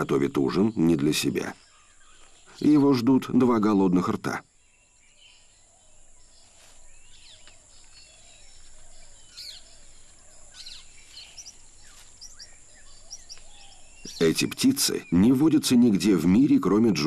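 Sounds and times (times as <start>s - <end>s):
forest ambience hiss: 0.0s - 17.0s
forest birds chirping: 0.0s - 17.0s.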